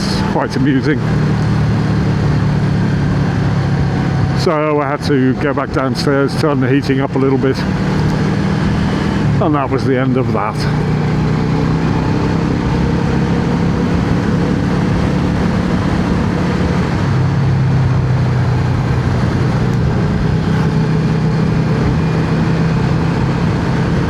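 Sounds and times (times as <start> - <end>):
motorcycle engine running: 0.0 - 24.0
rush of noise: 0.0 - 24.0.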